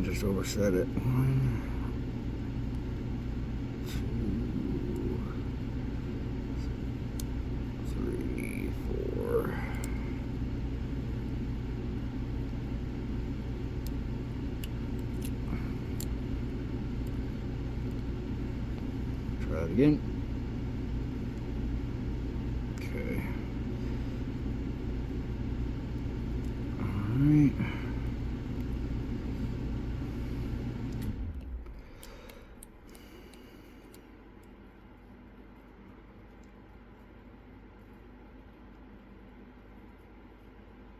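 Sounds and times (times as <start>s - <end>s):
low background rumble: 0.0s - 40.9s.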